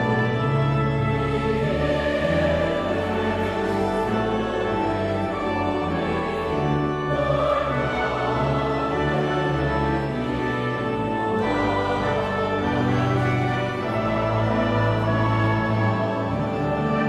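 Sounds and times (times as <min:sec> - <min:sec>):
church choir singing: 0:00.0 - 0:17.0
instrumental accompaniment: 0:00.0 - 0:17.0.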